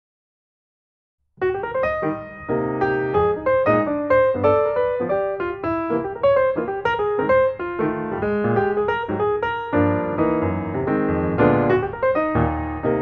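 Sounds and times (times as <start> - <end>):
piano music: 1.4 - 13.0.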